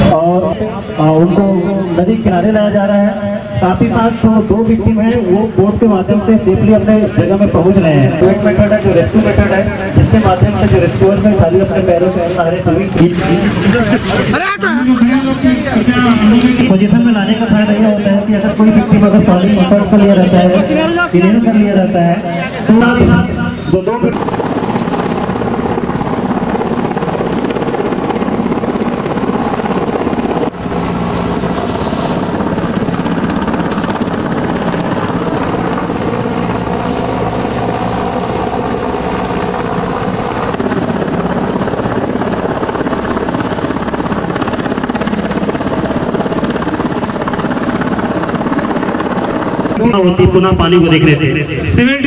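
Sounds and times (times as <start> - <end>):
helicopter hovering: 0.0 - 52.0.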